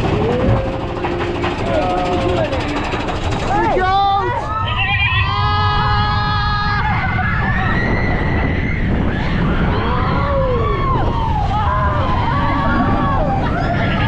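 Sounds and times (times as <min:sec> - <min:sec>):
riders yelling and whooping: 0:00.0 - 0:14.0
roller coaster rumbling on track: 0:00.0 - 0:14.0.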